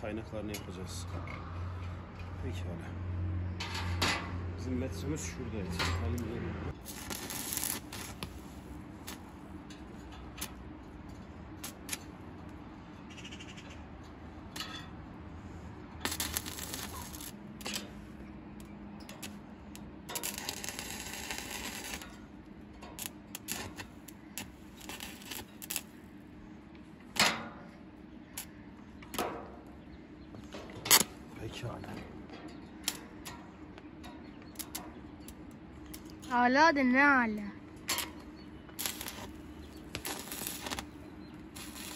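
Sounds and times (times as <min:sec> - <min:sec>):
arc welder crackling: 0:06.0 - 0:13.6, 0:15.8 - 0:41.9.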